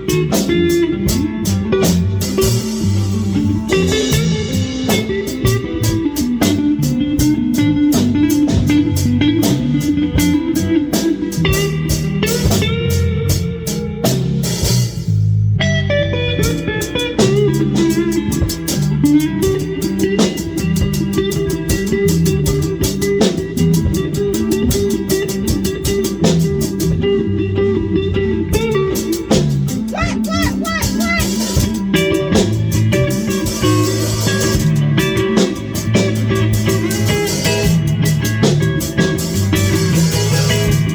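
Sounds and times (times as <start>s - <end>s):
drum kit beat: 0.0s - 15.3s, 16.4s - 27.1s, 28.6s - 40.9s
bass guitar: 0.0s - 40.9s
electric guitar: 0.0s - 40.9s.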